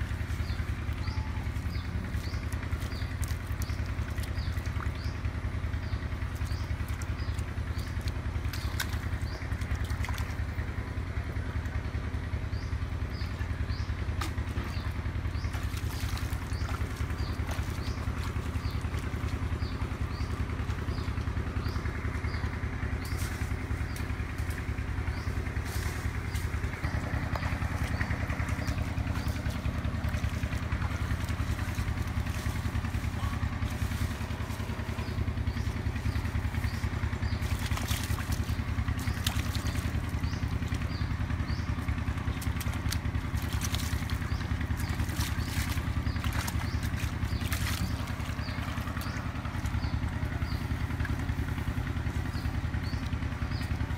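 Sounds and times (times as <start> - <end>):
bare feet wading in muddy water: 0.0 - 53.9
small engine humming: 0.0 - 53.9.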